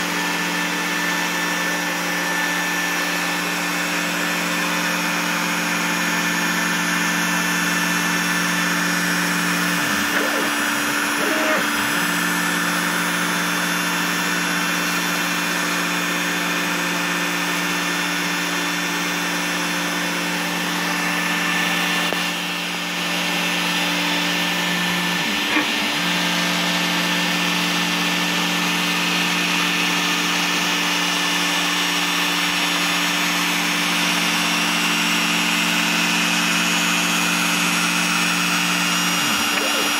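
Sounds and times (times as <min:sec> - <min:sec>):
router motor whine: 0:00.0 - 0:39.9.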